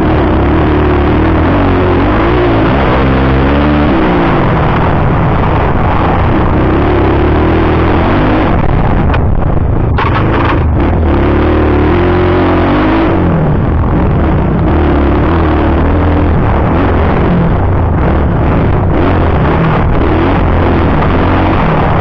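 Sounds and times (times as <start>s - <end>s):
motocross motorcycle engine: 0.0s - 22.0s.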